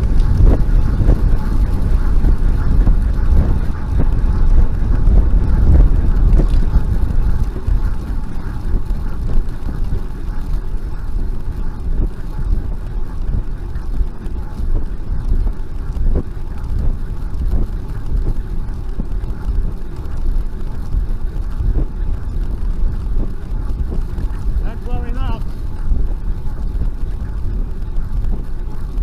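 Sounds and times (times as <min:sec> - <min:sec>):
bicycle tyres rolling on asphalt: 0:00.0 - 0:29.0
wind rumble on microphone: 0:00.0 - 0:29.0.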